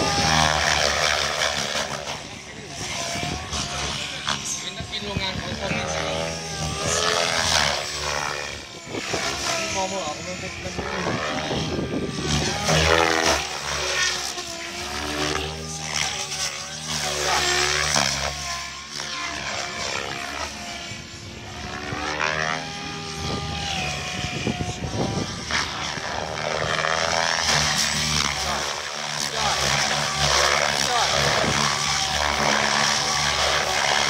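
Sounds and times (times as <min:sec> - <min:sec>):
model helicopter rotor whine: 0:00.0 - 0:34.0.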